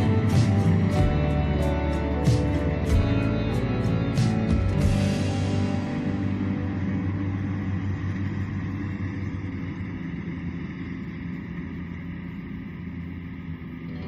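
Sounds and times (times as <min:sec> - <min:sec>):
distant harvester engine drone: 0:00.0 - 0:14.0.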